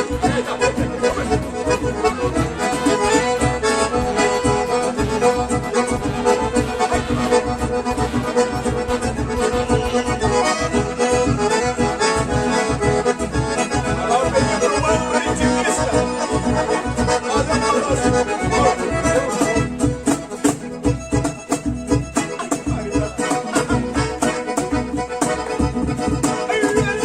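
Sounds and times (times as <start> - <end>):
accordion dance music: 0.0 - 27.0.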